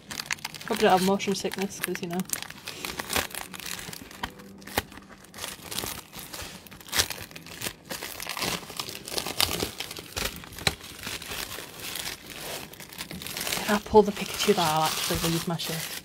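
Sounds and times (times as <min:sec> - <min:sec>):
plastic packaging crackling: 0:00.0 - 0:16.0.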